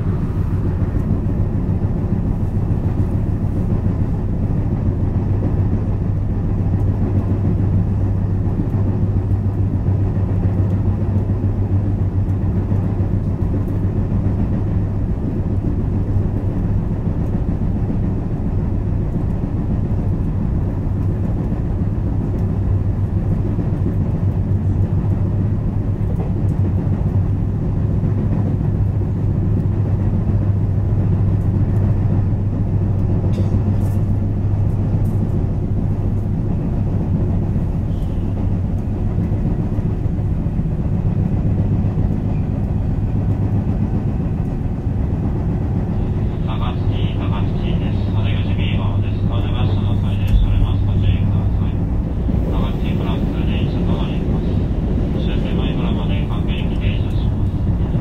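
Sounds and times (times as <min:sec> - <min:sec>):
low motor hum: 0:00.0 - 0:58.0
train wheels rumbling on rail: 0:00.0 - 0:58.0.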